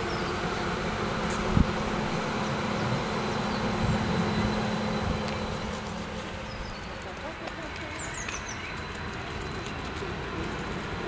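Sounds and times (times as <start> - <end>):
tram hum: 0.0 - 11.0.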